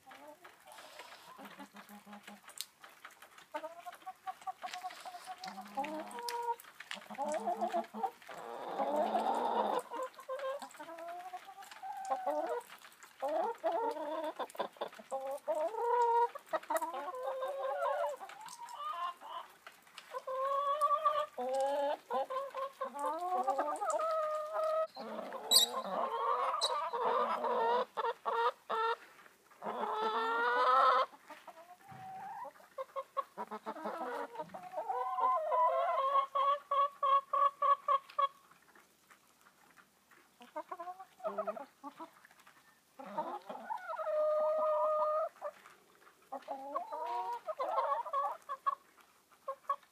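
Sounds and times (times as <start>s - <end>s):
hens clucking: 0.0s - 49.9s.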